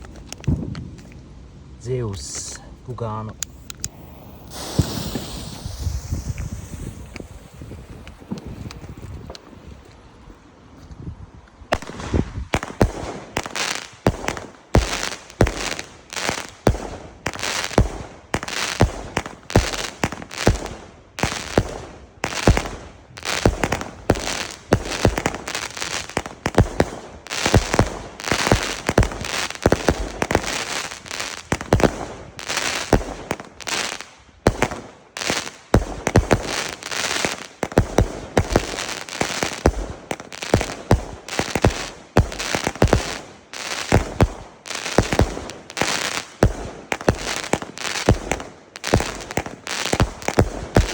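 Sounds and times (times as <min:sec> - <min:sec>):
firework crackling: 0:02.1 - 0:10.6, 0:11.7 - 0:50.9
firework battery shots and bursts: 0:03.4 - 0:10.1, 0:11.7 - 0:50.9.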